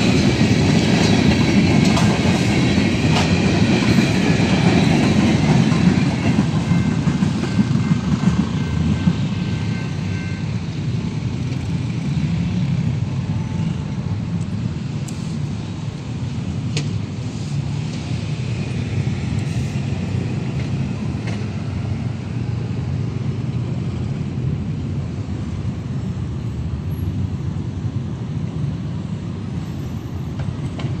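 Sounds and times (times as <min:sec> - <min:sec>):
cars driving over railway tracks: 0:00.0 - 0:31.0.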